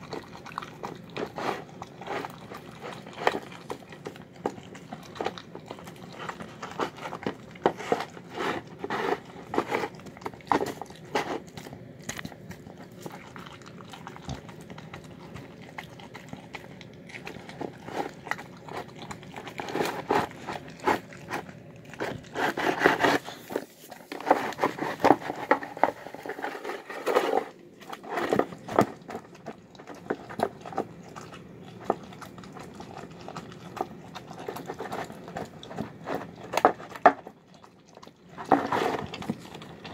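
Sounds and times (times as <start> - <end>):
dog chewing and smacking: 0.0 - 39.9.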